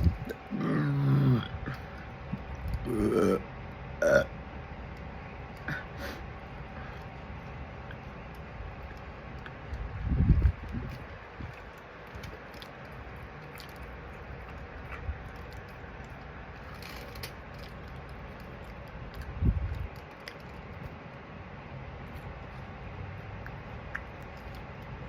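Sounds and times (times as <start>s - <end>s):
chewing french fries: 0.0s - 25.0s.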